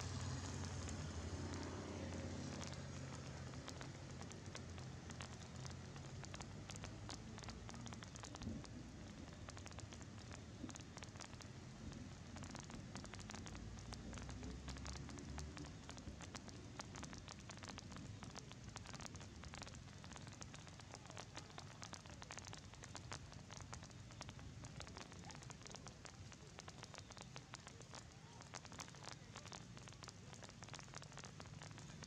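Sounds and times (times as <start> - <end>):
rain pattering: 0.0 - 32.0.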